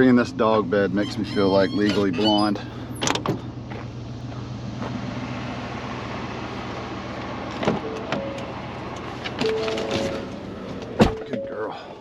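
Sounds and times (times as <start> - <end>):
truck engine running: 0.0 - 11.1.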